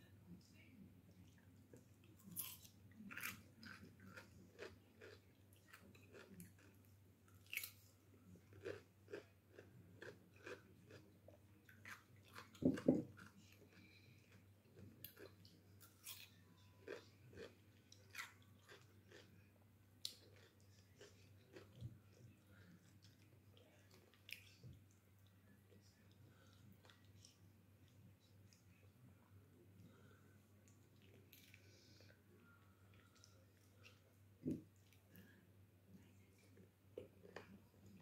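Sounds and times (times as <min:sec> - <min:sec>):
chewing and crunching: 0:01.3 - 0:28.8, 0:29.8 - 0:35.4.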